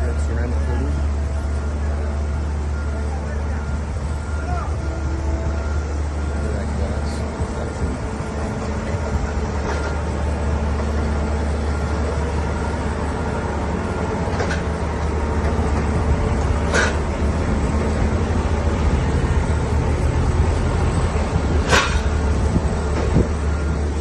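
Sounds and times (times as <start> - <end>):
low mechanical rumble: 0.0 - 24.0
steady tones: 0.0 - 24.0.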